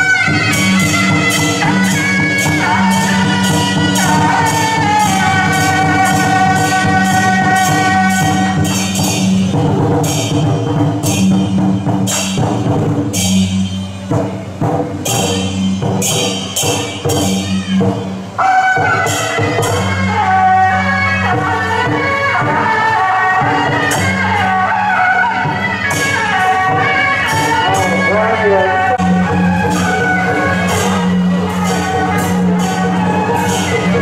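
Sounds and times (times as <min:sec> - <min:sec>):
steady drumming: 0:00.0 - 0:34.0.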